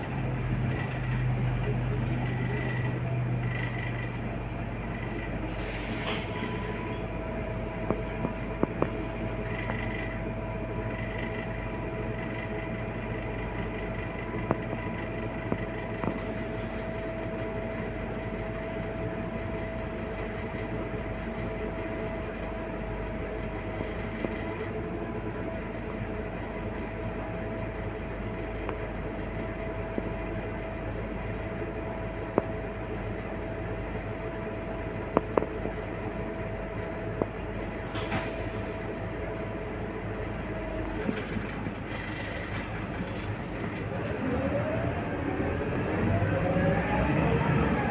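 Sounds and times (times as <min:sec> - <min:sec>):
bus diesel engine rumbling: 0:00.0 - 0:47.9.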